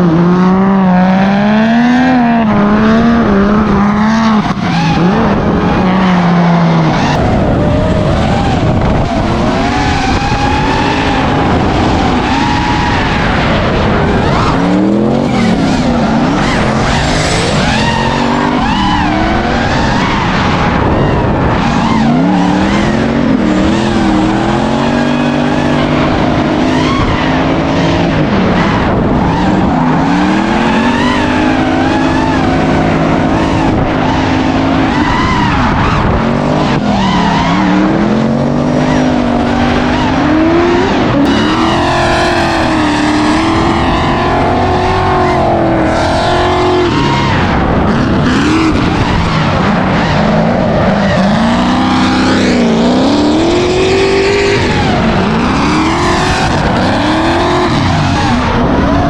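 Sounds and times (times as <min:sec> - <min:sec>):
car engines revving: 0:00.0 - 0:59.0
tire squeal: 0:00.8 - 0:59.0.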